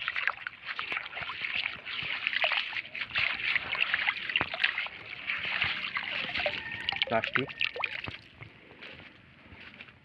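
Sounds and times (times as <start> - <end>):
river water splashing and trickling: 0.0 - 8.4.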